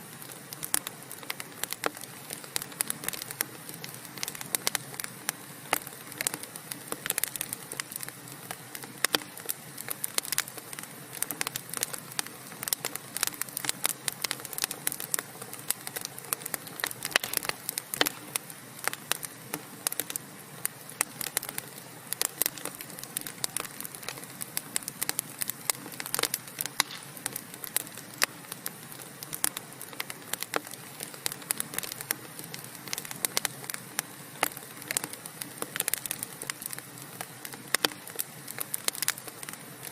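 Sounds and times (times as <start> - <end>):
logs crackling in a fireplace: 0.0 - 39.9
soft steady hiss: 0.0 - 39.9.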